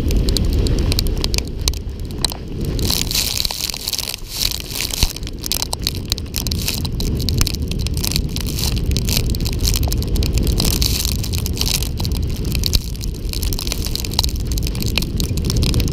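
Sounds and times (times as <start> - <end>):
board scraping over gravel: 0.0 - 15.9
clicks of kicked-up stones: 0.0 - 15.9
wind buffeting microphone: 0.0 - 15.9.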